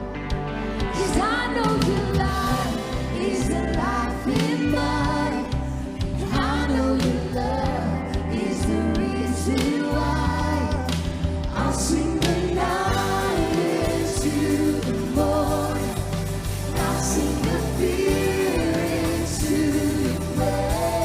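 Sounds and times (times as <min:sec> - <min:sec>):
worship band playing: 0:00.0 - 0:21.0
group singing: 0:01.0 - 0:21.0.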